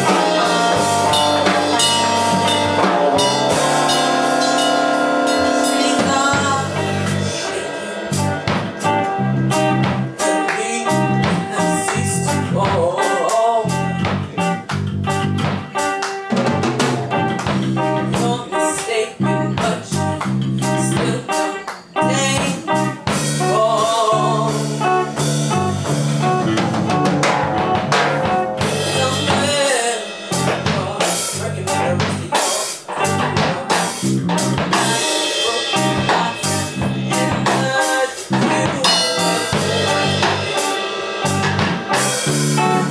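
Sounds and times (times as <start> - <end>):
person singing: 0.0 - 14.7, 16.8 - 25.8, 27.2 - 42.9
bass line: 0.0 - 21.3, 22.0 - 42.9
drum rimshots: 0.0 - 42.9
live blues band playing: 0.0 - 42.9.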